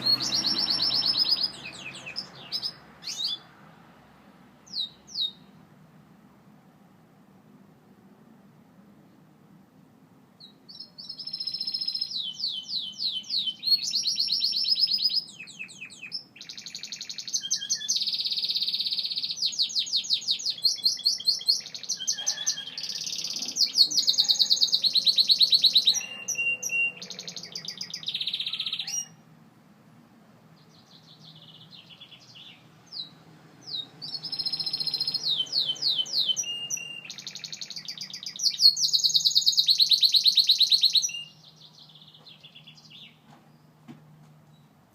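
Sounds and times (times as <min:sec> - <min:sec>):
canary singing trills: 0:00.0 - 0:03.5, 0:04.6 - 0:05.6, 0:10.4 - 0:29.3, 0:30.6 - 0:43.8.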